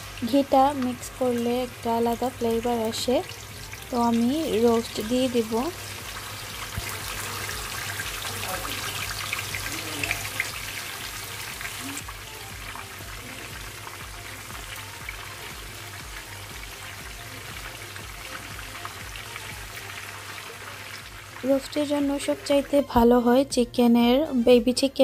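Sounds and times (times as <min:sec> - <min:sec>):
chicken sizzling in hot oil: 0:00.0 - 0:23.2.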